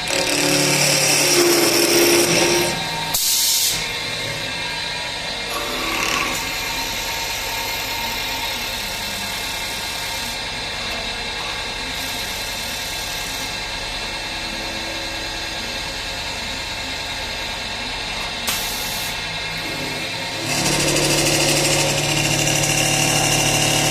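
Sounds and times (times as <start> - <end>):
lathe humming and whining: 0.0 - 23.9.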